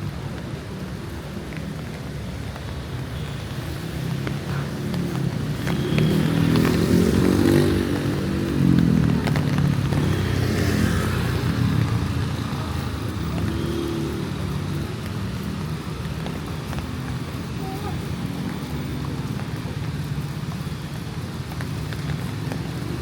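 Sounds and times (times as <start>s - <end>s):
vehicles passing on wet street: 0.0s - 23.0s.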